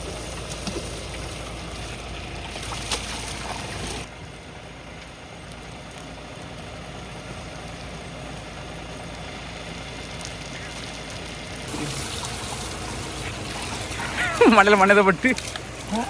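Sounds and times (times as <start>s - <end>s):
low engine hum: 0.0s - 16.0s
water noise: 0.0s - 16.0s.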